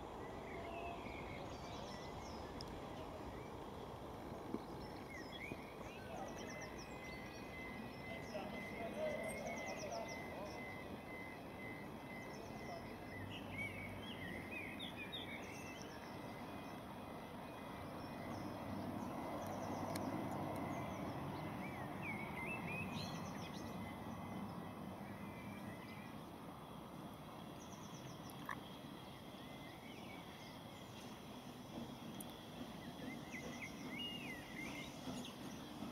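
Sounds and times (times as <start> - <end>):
birds singing: 0.0 - 35.9
distant steam locomotive rumble: 0.0 - 35.9.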